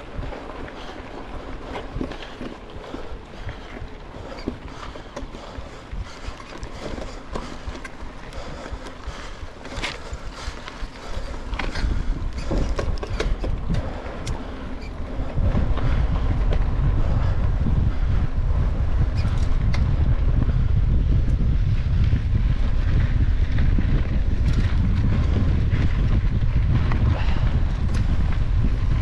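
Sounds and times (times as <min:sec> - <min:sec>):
bike clicks and rattles: 0:00.0 - 0:29.0
wind rumble on microphone: 0:00.0 - 0:29.0.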